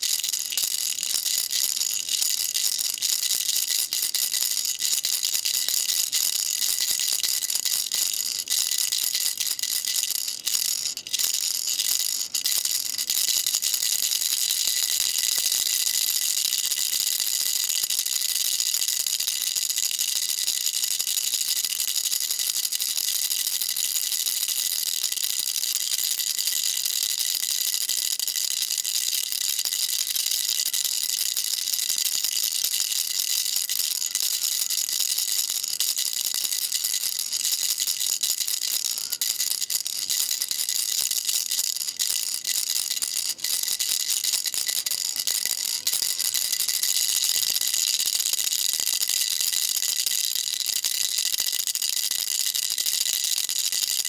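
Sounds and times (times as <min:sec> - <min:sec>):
baby rattle shaken: 0:00.0 - 0:54.0.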